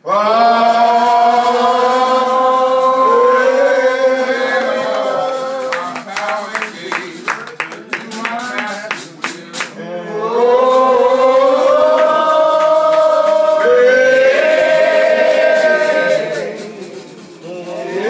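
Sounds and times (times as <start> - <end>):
congregation singing: 0.0 - 18.0.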